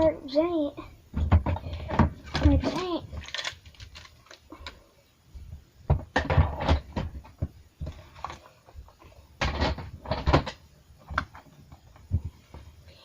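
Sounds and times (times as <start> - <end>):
objects knocking and clattering: 1.1 - 4.8, 5.9 - 12.7.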